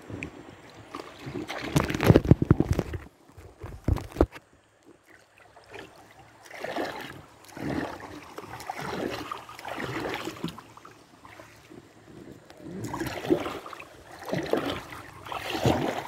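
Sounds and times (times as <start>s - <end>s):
river water splashing: 0.0s - 16.0s.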